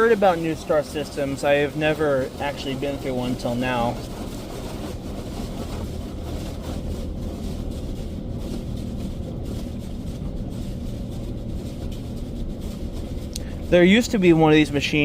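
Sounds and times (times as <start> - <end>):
low machine hum: 0.0 - 15.0
water spraying against car: 0.0 - 15.0.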